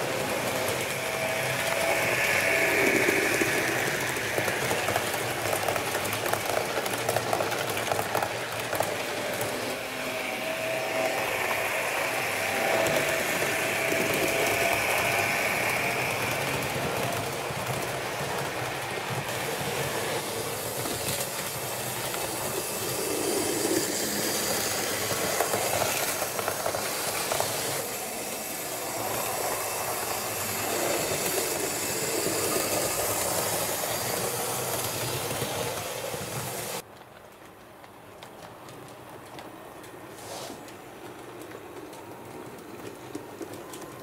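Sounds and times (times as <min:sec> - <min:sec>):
model train running on track: 0:00.0 - 0:44.0.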